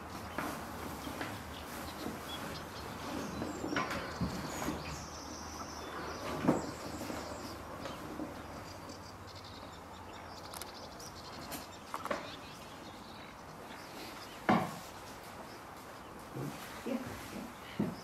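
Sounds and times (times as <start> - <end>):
distant birds chirping: 0.0 - 18.0
steady background hiss: 0.0 - 18.0.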